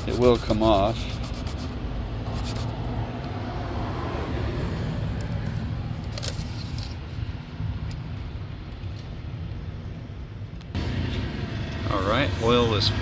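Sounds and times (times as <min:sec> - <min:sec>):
engine humming: 0:01.6 - 0:13.0.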